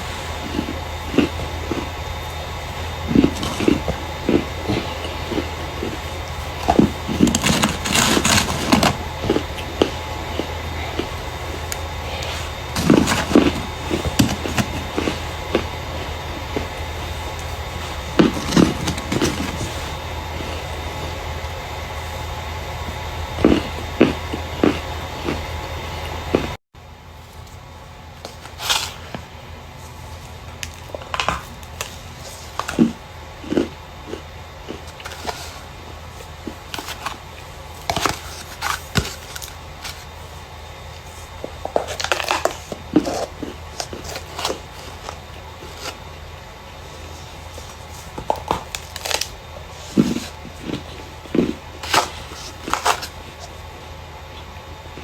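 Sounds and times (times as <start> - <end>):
dry starch crunching: 0.0 - 26.6, 27.2 - 53.8.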